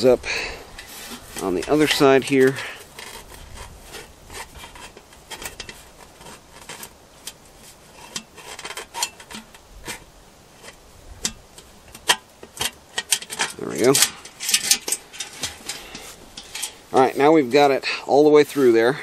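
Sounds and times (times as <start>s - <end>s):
metallic clicking and scraping: 0.6s - 17.4s.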